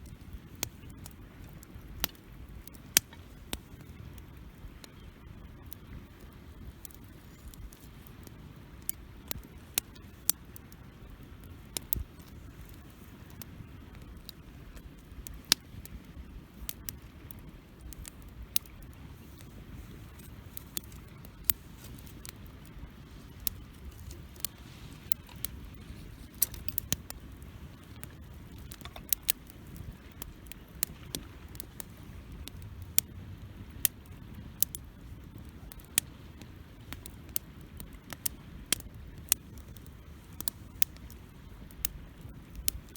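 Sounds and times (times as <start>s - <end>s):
crackles and pops of burning wood: 0.0s - 42.9s
rumble of campfire flames: 0.0s - 42.9s.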